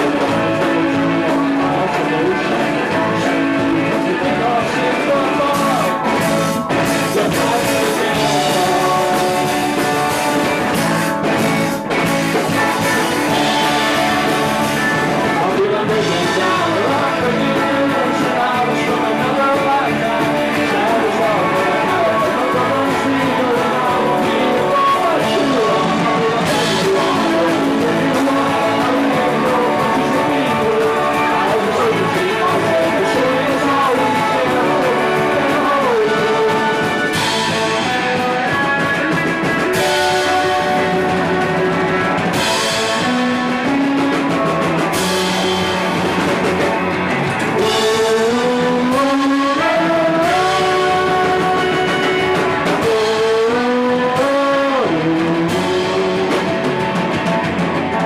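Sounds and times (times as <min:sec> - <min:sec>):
electric guitar: 0:00.0 - 0:58.0
live rock band playing: 0:00.0 - 0:58.0.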